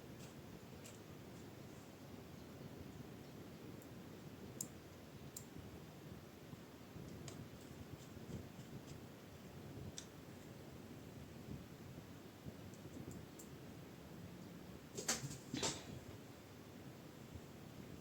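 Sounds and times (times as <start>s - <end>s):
faint low room noise: 0.0s - 18.0s.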